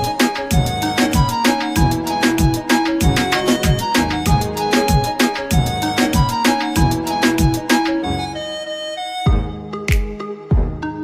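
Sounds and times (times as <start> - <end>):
instrumental beat music: 0.0 - 11.0.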